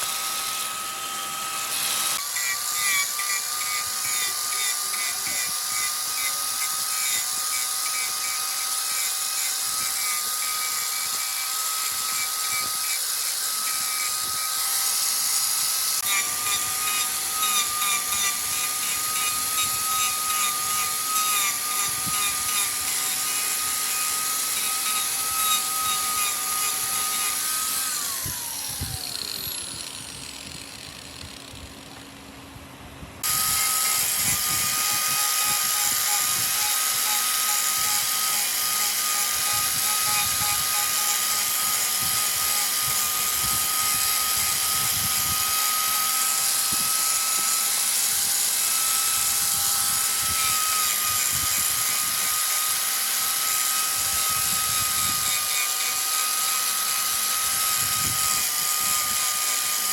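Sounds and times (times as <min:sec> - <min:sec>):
wood lathe motor whine: 0:00.0 - 0:32.0, 0:33.2 - 0:59.9.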